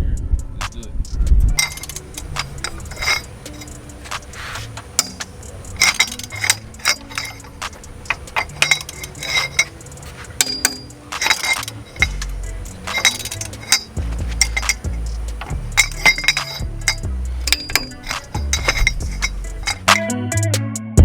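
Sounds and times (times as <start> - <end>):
background music with bass: 0.0 - 21.0
metal clinks: 1.6 - 20.2
ratchet wrench clicking: 1.6 - 20.2.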